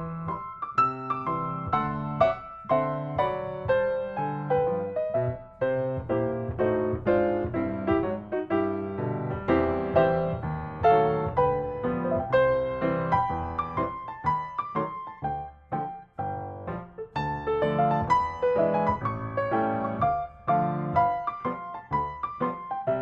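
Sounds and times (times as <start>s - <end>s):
solo piano music: 0.0s - 23.0s.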